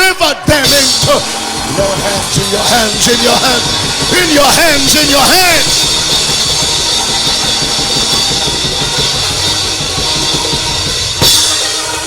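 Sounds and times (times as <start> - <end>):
band music with drum kit: 0.0 - 12.0
cymbal crash: 0.6 - 12.0.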